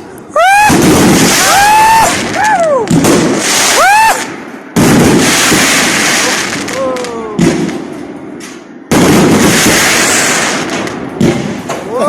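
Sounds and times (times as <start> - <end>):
fireworks bangs and crackle: 0.0 - 12.0.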